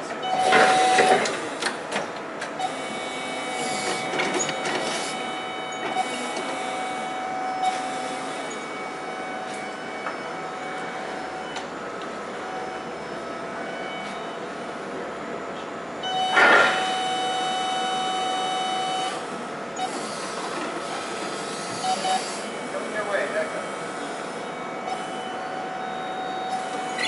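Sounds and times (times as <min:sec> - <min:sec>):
electric forklift motor whine: 0:02.5 - 0:27.0.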